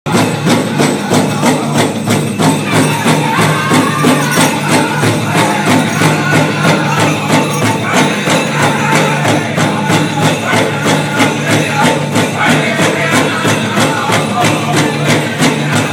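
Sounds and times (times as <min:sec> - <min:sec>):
men singing in unison: 0:00.1 - 0:15.9.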